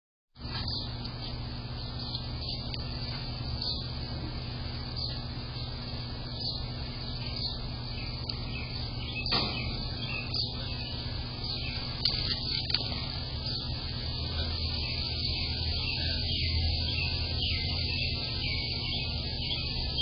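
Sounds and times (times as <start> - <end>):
small birds chirping: 0.4 - 20.0
steady low hum: 0.4 - 20.0.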